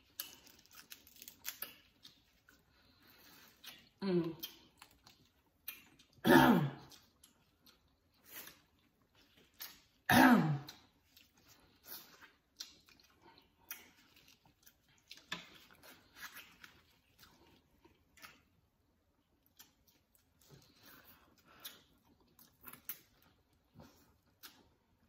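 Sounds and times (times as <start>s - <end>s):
chewing and mouth smacks: 0.0s - 6.2s, 6.8s - 25.0s.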